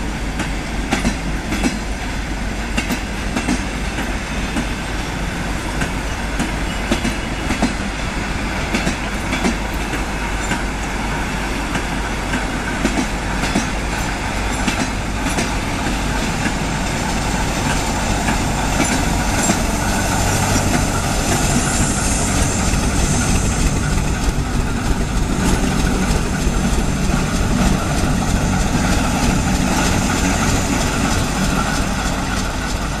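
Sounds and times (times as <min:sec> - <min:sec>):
diesel locomotive engine running: 0:00.0 - 0:33.0
wheels clicking on track: 0:02.6 - 0:08.0, 0:08.6 - 0:33.0.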